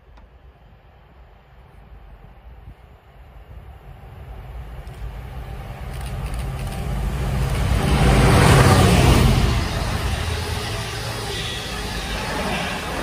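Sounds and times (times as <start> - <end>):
diesel locomotive engine drone: 0.0 - 13.0
train wheels on rail: 0.0 - 13.0.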